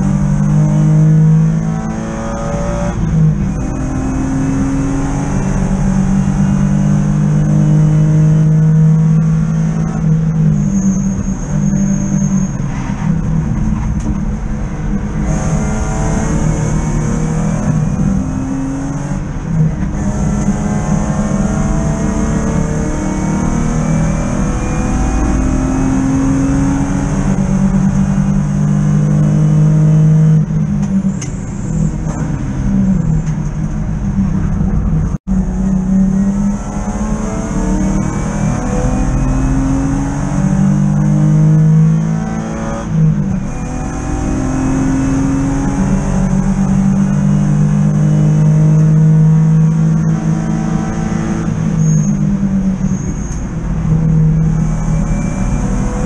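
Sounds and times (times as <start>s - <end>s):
car engine revving from inside cabin: 0.0s - 12.3s, 15.1s - 31.2s, 35.4s - 56.0s.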